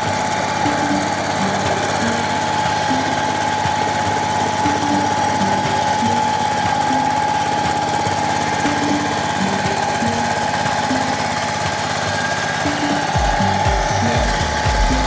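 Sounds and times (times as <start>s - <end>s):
diesel tiller engine chugging: 0.0s - 15.0s
steady high whine: 0.0s - 15.0s.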